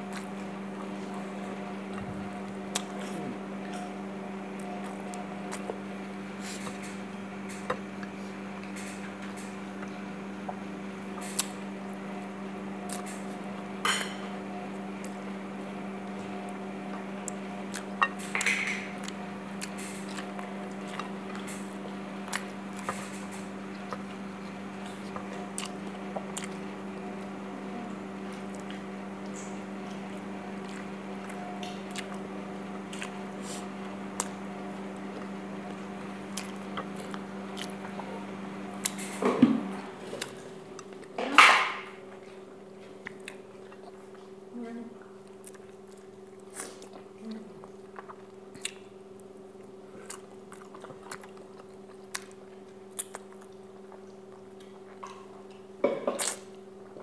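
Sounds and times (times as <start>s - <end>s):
food chewing: 0.0s - 41.2s, 42.0s - 57.0s
steady low hum: 0.0s - 57.0s.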